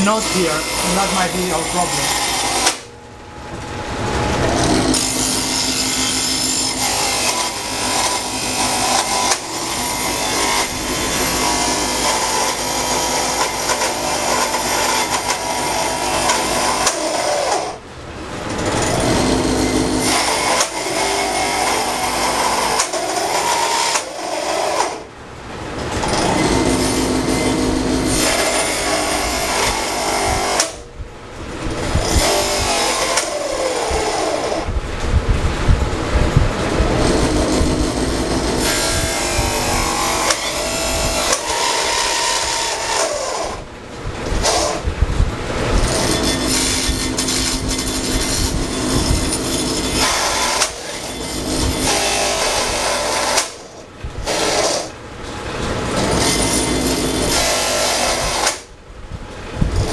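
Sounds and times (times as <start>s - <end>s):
drill press cutting wood: 0.0s - 2.9s, 4.5s - 17.8s, 18.6s - 25.1s, 26.0s - 30.8s, 31.7s - 34.7s, 36.9s - 43.6s, 44.4s - 44.9s, 45.8s - 55.0s, 55.8s - 58.7s.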